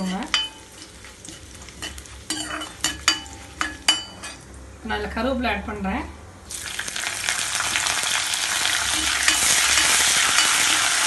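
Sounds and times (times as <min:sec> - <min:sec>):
hot oil sizzling: 0:00.0 - 0:04.5, 0:06.4 - 0:11.0.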